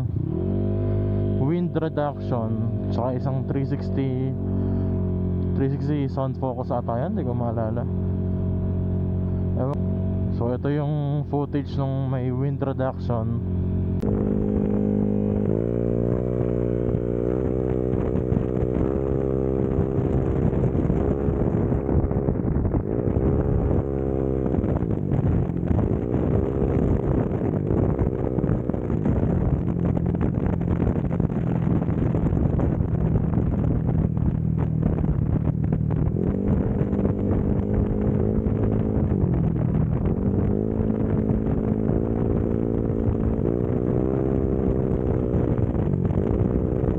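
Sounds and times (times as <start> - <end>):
motorcycle exhaust accelerating: 0.0 - 46.9.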